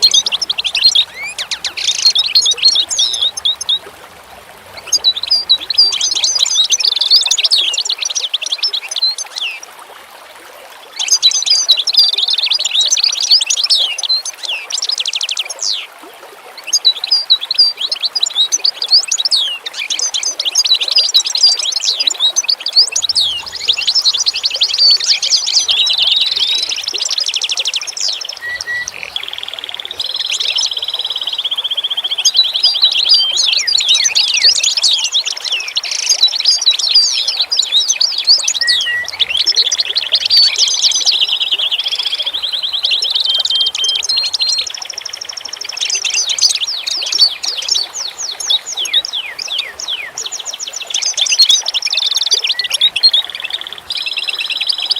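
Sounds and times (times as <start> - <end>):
songbirds chirping and singing: 0.0 - 9.6, 16.6 - 54.9.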